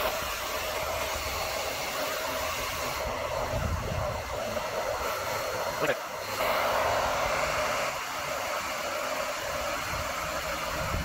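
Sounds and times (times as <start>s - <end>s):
hair dryer blowing hot air: 0.0s - 11.0s.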